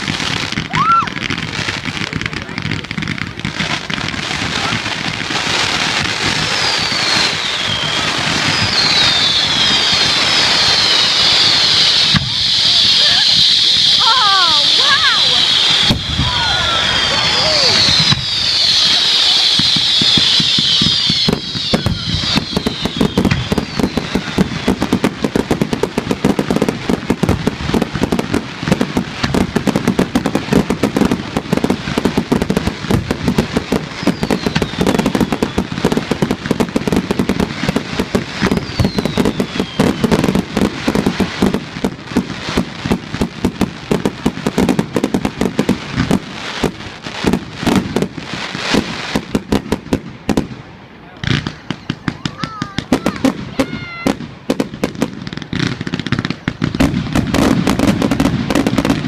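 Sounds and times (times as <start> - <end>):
fireworks bangs and crackle: 0.0 - 59.0
falling firework whistles: 5.5 - 49.6, 51.2 - 59.0.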